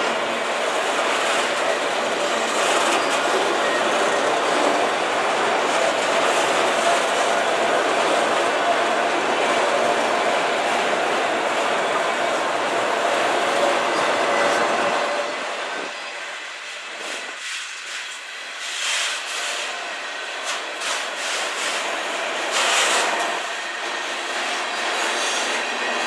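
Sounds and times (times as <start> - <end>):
freight train wheels clattering: 0.0 - 26.0.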